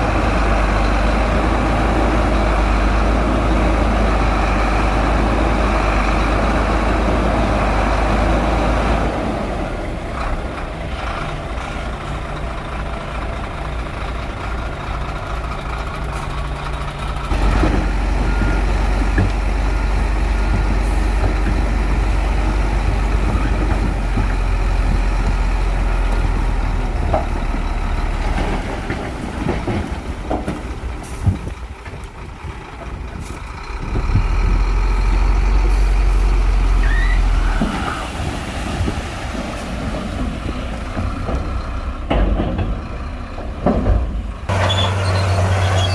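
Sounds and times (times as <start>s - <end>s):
bulldozer diesel engine: 0.0s - 45.9s.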